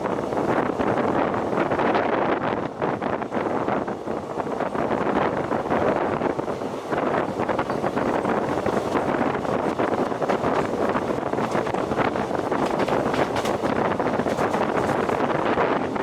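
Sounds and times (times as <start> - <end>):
train wheels rumbling on rails: 0.0 - 16.0
wind buffeting microphone: 0.0 - 16.0.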